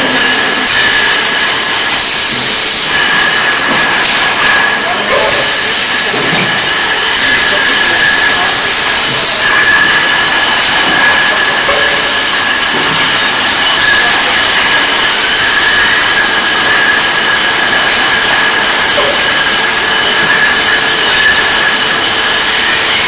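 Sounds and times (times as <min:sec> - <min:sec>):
bottling machinery din: 0:00.0 - 0:23.0
high steady whine: 0:00.0 - 0:23.0.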